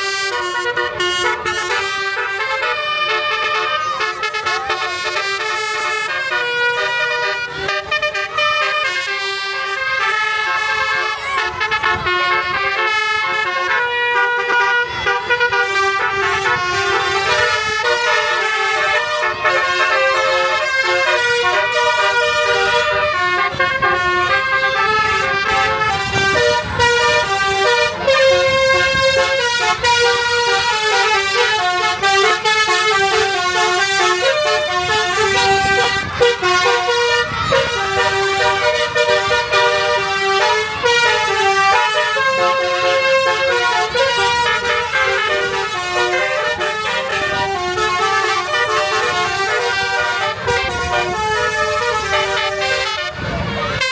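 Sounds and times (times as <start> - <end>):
low rumble of vehicles: 0.0 - 53.9
musical air horns playing notes: 0.0 - 53.9.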